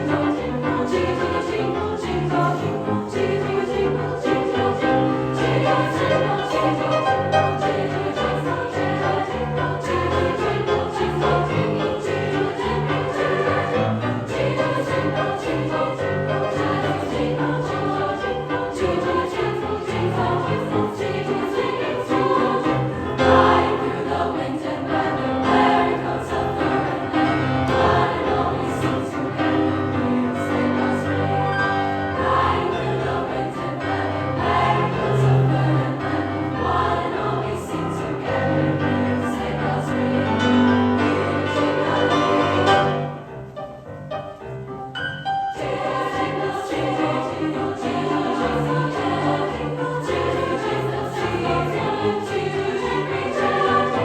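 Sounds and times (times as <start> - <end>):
choir singing christmas song: 0.0 - 43.6, 44.9 - 54.0.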